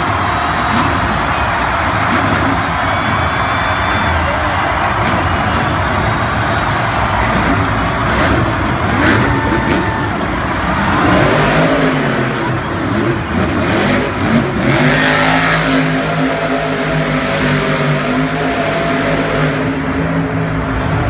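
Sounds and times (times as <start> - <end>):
monster truck engine running: 0.0 - 21.0.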